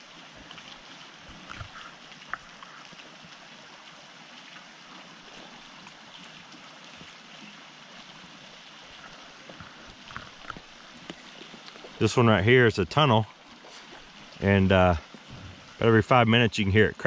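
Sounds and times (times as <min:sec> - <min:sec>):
water drips and clicks: 0:00.0 - 0:15.9
gentle water hiss: 0:00.0 - 0:17.0.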